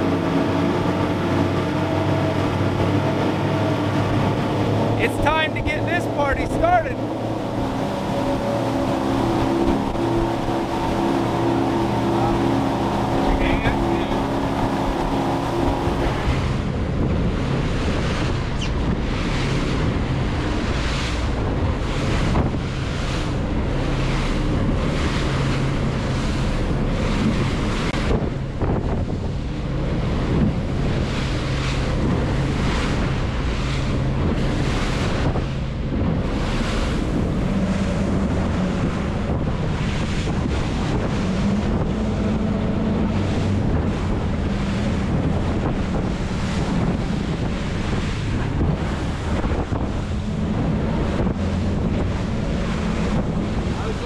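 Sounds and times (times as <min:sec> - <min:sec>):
boat engine drone: 0:00.0 - 0:54.0
water rushing and spray: 0:00.0 - 0:54.0
wind buffeting microphone: 0:00.0 - 0:54.0.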